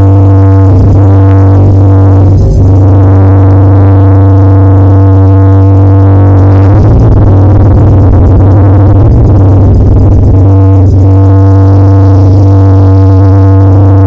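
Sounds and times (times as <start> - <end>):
loud bass-heavy electronic music: 0.0 - 14.0.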